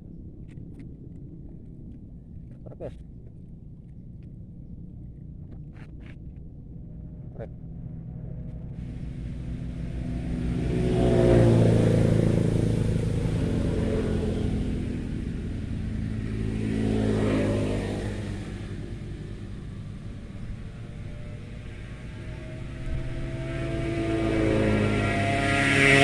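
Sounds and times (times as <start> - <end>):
vehicles passing by: 0.0 - 26.0.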